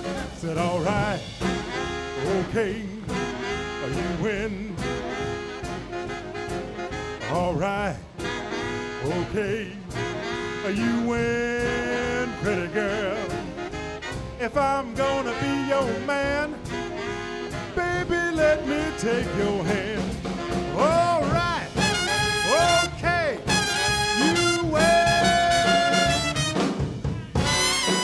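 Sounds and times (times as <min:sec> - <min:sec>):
saxophones and brass: 0:00.0 - 0:28.0
swing drum beat: 0:00.0 - 0:28.0.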